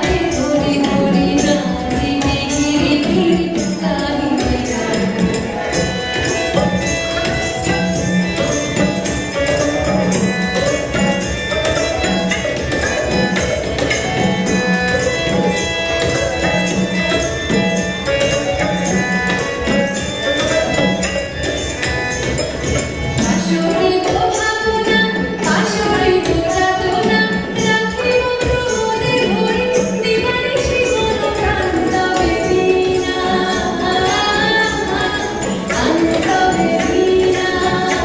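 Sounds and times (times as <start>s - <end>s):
percussion beat: 0.0s - 38.0s.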